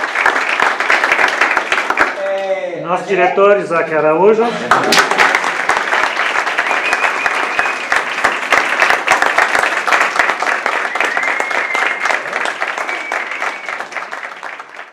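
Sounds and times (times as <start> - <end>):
audience applauding: 0.0 - 2.6, 4.6 - 14.9.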